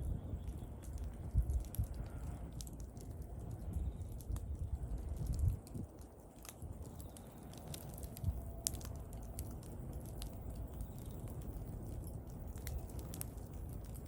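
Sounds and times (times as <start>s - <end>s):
fire low rumble: 0.0s - 14.0s
wood crackling and popping: 0.0s - 14.0s.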